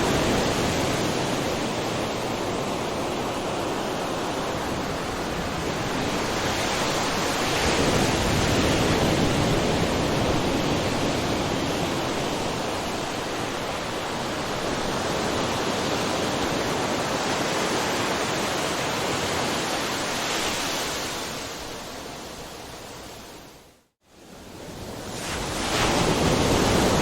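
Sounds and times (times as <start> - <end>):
ocean surf rushing: 0.0 - 23.3, 24.5 - 27.0.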